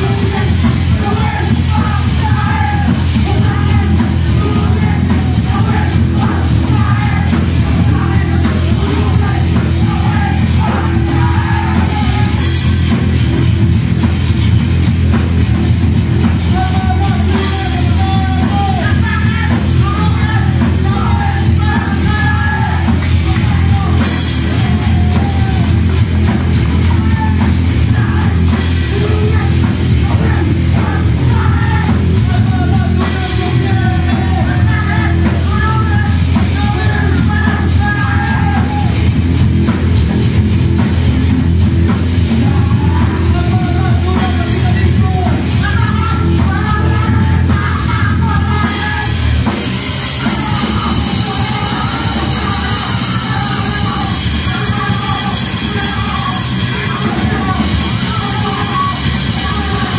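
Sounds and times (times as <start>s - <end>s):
person yelling vocals: 0.0s - 12.4s, 16.5s - 25.9s, 26.7s - 39.0s, 42.4s - 49.2s, 50.2s - 59.9s
hardcore punk band playing: 0.0s - 59.9s.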